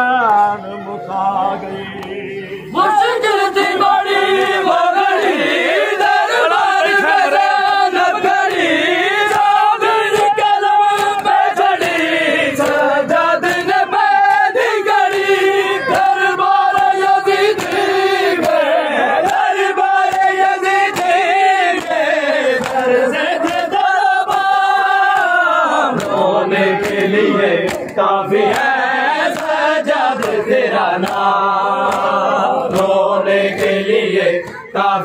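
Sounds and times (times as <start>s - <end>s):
crowd of men chanting in unison: 0.0s - 35.0s.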